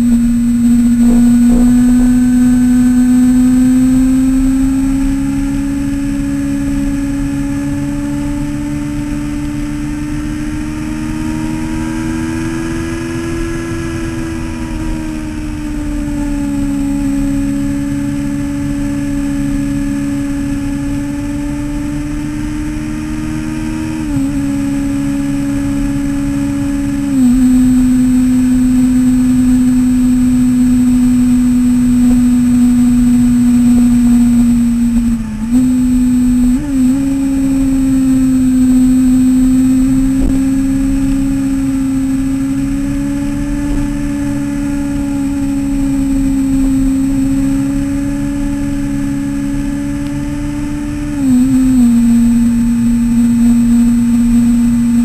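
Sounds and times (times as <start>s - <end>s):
wind noise: 0.0s - 28.2s, 29.2s - 55.0s
motorcycle engine at high revs: 0.0s - 55.0s.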